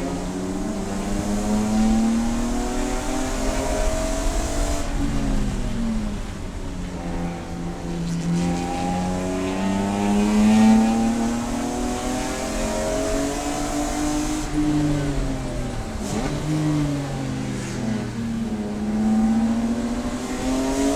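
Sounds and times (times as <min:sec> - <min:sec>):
race car engine revving: 0:00.0 - 0:20.9.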